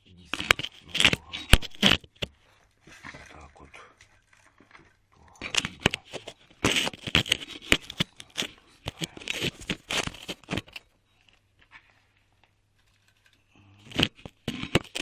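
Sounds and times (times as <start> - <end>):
crackling handling noises: 0.0 - 15.0.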